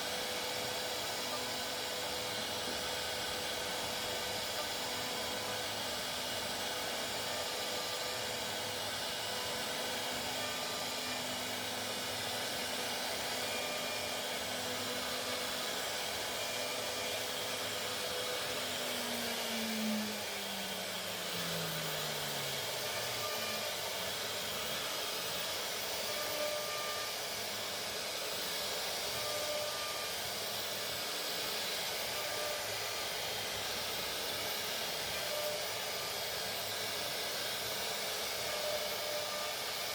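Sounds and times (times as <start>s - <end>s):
cnc router running: 0.0s - 39.9s.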